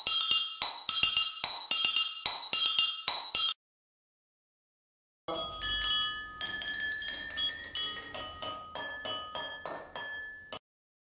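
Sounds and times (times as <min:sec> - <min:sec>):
glasses struck with metal spoon: 0:00.0 - 0:03.6, 0:05.3 - 0:10.6.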